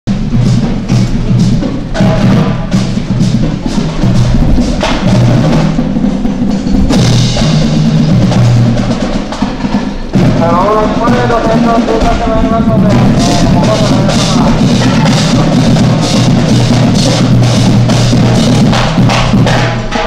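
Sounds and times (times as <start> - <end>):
drums keeping steady beat: 0.1 - 20.0
marching band playing: 0.1 - 20.0.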